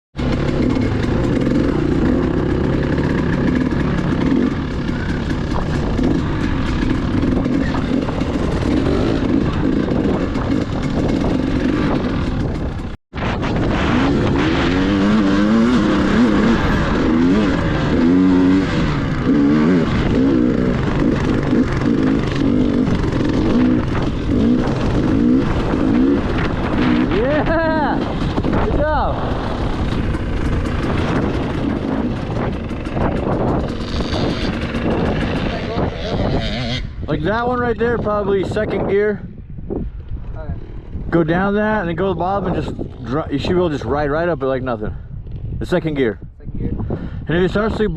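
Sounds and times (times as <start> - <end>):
dirt bike engine revving: 0.2 - 44.3.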